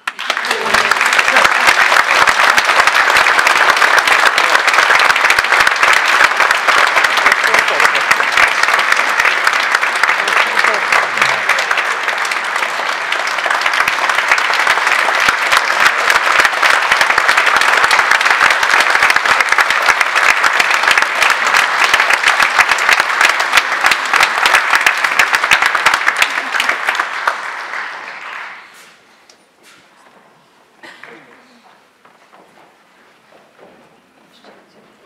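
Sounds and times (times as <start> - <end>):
audience applauding: 0.0 - 29.1.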